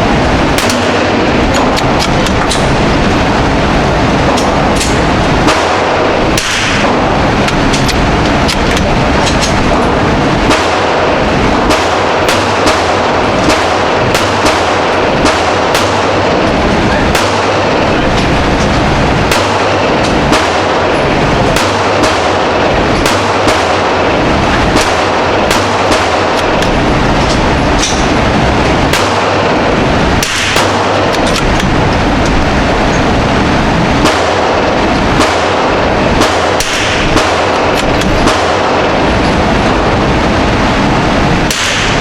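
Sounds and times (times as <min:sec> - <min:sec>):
gunshots: 0:00.0 - 0:42.0
loud rushing noise: 0:00.0 - 0:42.0.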